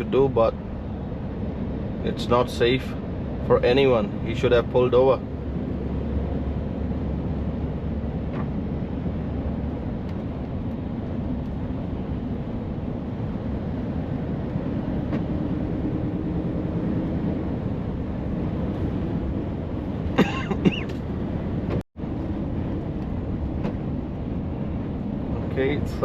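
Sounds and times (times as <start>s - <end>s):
road noise: 0.0s - 26.0s
truck engine: 0.0s - 26.0s.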